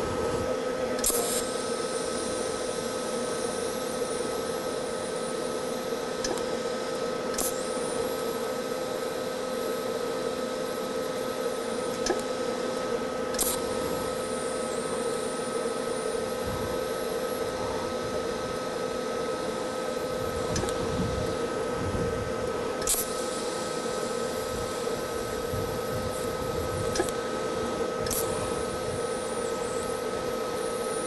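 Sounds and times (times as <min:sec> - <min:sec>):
welding arc hissing and buzzing: 0:00.0 - 0:31.0.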